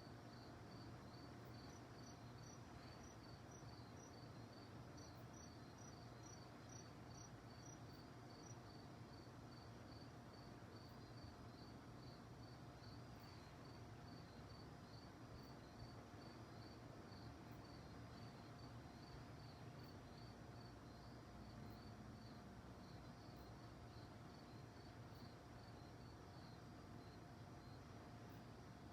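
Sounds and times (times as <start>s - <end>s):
higher-pitched cricket chirping: 0.0s - 28.6s
crickets chirping: 0.0s - 28.9s.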